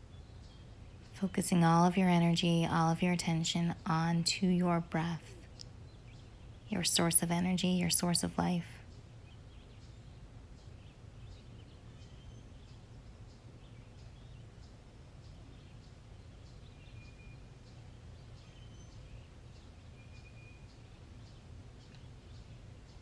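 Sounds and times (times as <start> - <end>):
birds chirping: 0.0 - 23.0
low background rumble: 0.0 - 23.0.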